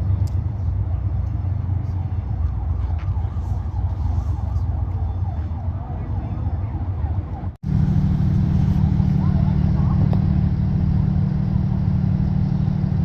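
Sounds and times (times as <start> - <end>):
steady low rumble: 0.0 - 13.0
fire truck siren warbling: 2.2 - 13.0.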